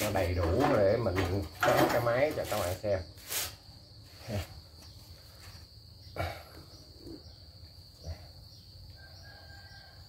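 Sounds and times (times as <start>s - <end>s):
cricket trilling: 0.0s - 10.0s.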